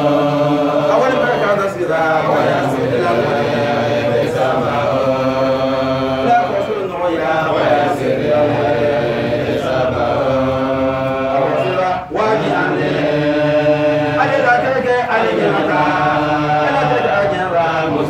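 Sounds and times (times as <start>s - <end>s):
men chanting devotional verses: 0.0s - 18.0s.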